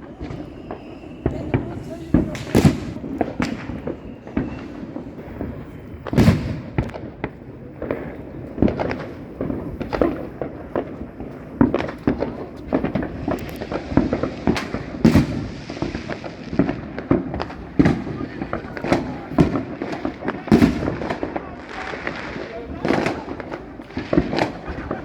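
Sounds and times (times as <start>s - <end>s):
firecrackers popping and banging: 0.0s - 25.0s.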